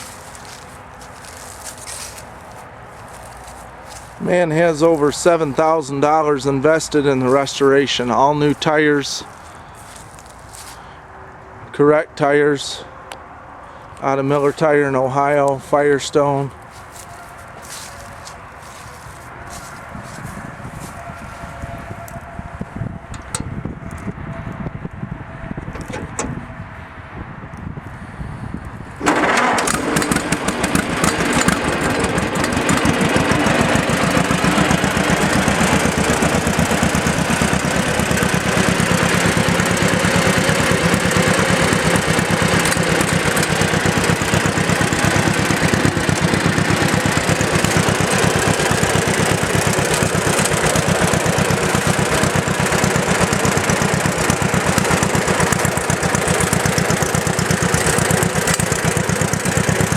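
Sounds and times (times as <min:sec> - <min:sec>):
tractor engine starting and idling: 0:00.0 - 0:11.1, 0:14.0 - 0:27.6, 0:28.7 - 0:59.9.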